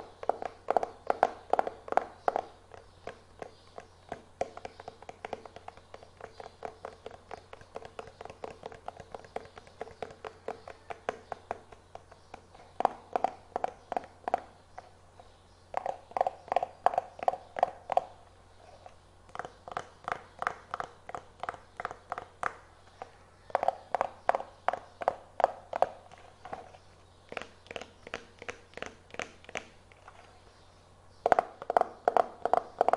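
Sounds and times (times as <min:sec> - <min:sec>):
fast finger tapping: 0:00.0 - 0:14.9, 0:15.7 - 0:18.2, 0:19.3 - 0:26.7, 0:27.3 - 0:29.8, 0:31.2 - 0:32.9.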